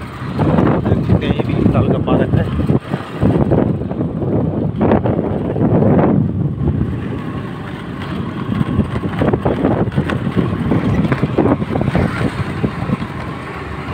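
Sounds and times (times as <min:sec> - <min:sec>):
scooter engine running: 0:00.0 - 0:13.9.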